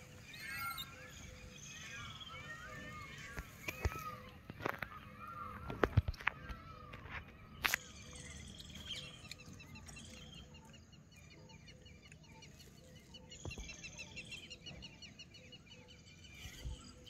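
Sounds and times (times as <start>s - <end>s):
high bird chirps: 0.0s - 17.0s.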